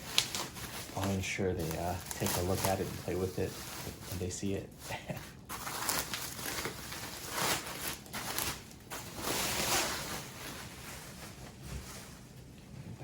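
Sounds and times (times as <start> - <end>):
plastic and bubble wrap crinkling: 0.0 - 12.8.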